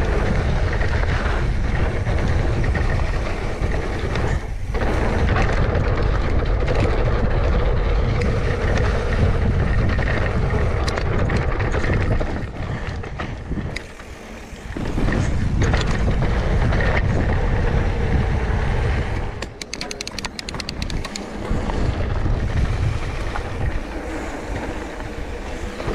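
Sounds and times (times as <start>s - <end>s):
heavy rumble: 0.0s - 25.9s
wind rushing over microphone: 0.0s - 25.9s.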